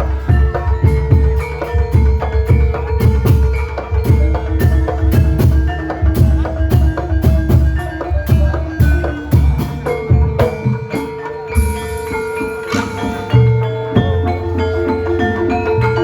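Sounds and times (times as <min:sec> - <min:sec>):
metallophones ringing a melody: 0:00.0 - 0:16.0.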